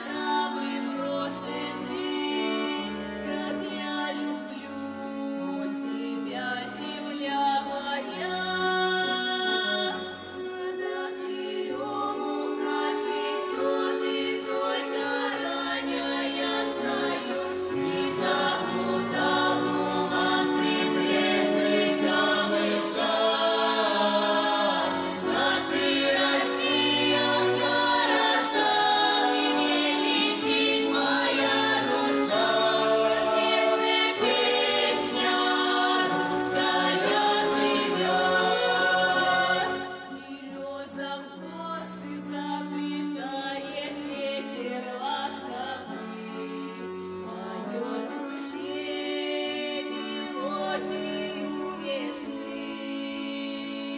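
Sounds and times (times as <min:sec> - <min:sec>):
vocal ensemble singing folk song: 0:00.0 - 0:53.9.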